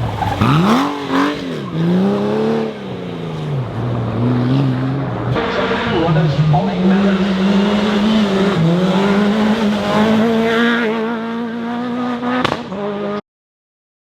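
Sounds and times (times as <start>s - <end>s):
rally car engine revving: 0.0s - 13.2s.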